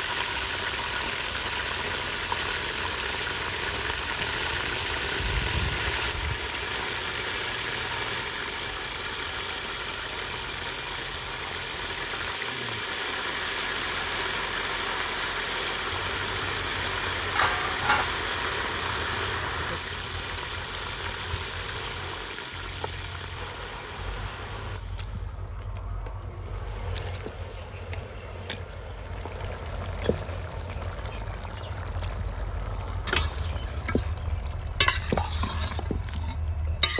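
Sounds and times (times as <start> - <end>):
oil sizzling in a pot: 0.0 - 24.8, 28.7 - 36.9.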